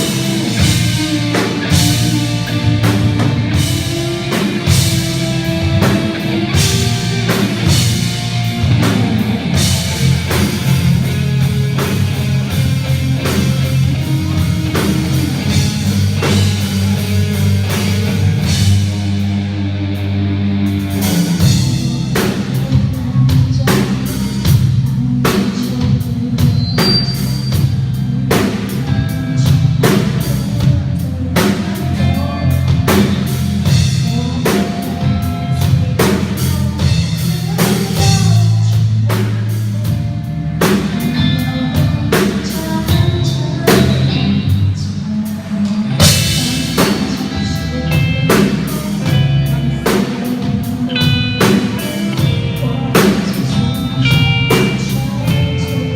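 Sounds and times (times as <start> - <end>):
drum kit: 0.0 - 55.9
live rock band: 0.0 - 55.9.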